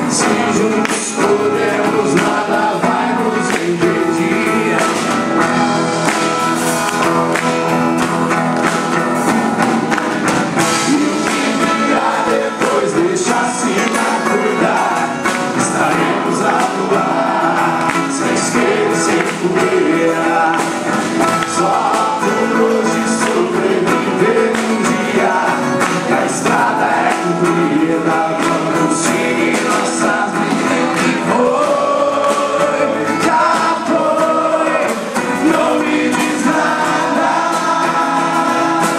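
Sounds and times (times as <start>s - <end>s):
band playing a song: 0.0s - 38.9s
steady percussion: 0.0s - 38.9s
voices singing: 0.0s - 38.9s.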